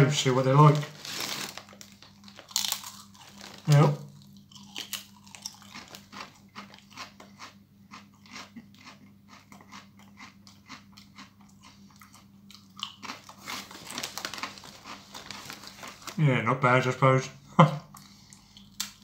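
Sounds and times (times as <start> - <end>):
potato crisps crunching: 0.2 - 16.3.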